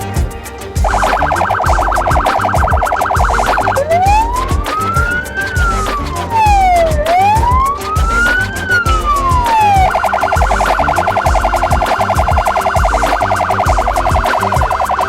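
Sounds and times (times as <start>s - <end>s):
electronic siren yelping and wailing: 0.8s - 15.0s.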